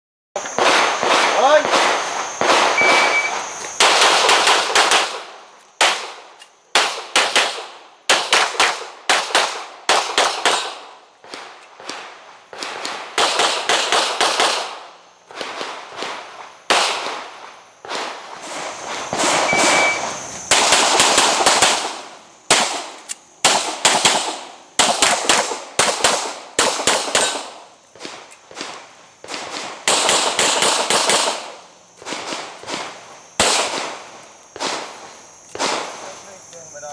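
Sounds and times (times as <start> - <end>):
rapid pistol shots with echo: 0.6 - 3.2, 3.8 - 34.0, 35.6 - 35.9.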